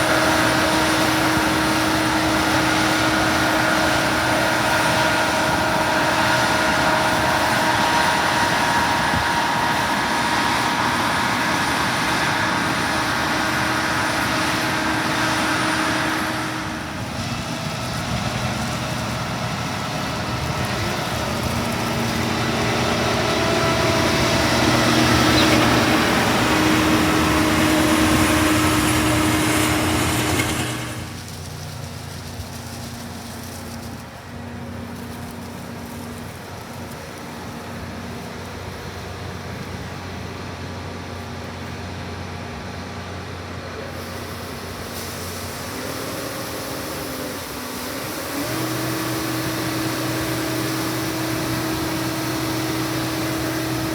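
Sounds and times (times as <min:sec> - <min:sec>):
combine harvester drone: 0:00.0 - 0:53.9.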